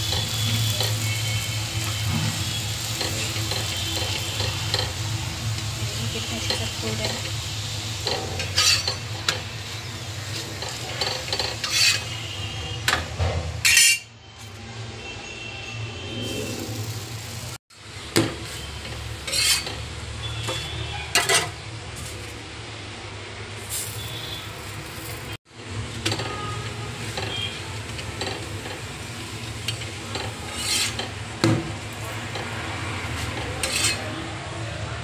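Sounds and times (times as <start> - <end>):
faint sizzle: 0.0 - 12.6, 16.0 - 20.9, 23.5 - 34.9
metal spatula scraping on griddle: 0.0 - 14.6, 16.0 - 17.5, 18.2 - 22.3, 23.6 - 31.3, 31.9 - 34.4.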